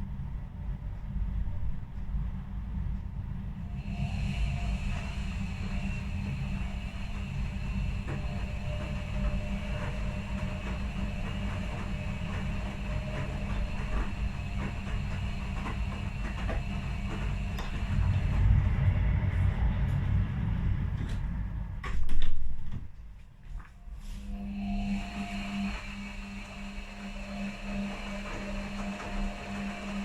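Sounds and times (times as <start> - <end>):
washing machine motor hum: 1.5 - 30.0
washing machine drum rumble: 3.6 - 23.3, 23.9 - 30.0.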